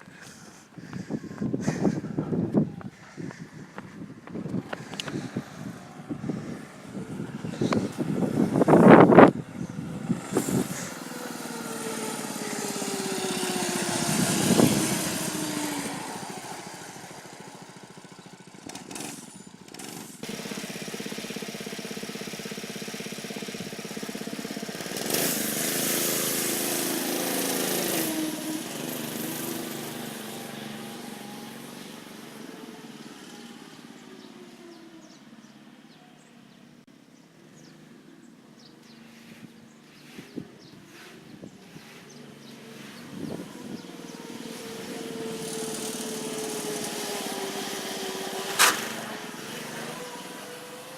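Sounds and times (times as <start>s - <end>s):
mini bike engine passing by: 3.1s - 36.6s, 38.6s - 50.9s.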